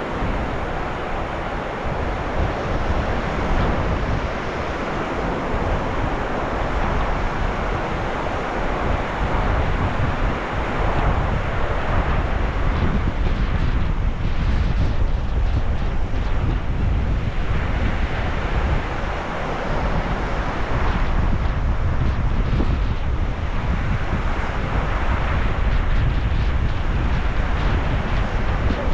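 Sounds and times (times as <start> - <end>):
sea waves washing in: 0.0 - 14.0, 15.8 - 28.9
wind rumbling on microphone: 0.0 - 28.9.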